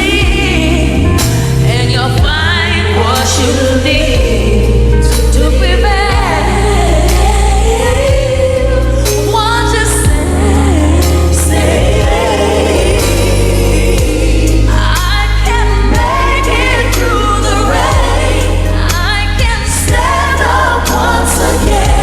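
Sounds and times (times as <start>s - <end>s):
backing vocals: 0.0s - 22.0s
full band playing: 0.0s - 22.0s
steady bass: 0.0s - 22.0s
woman singing pop ballad: 0.0s - 22.0s.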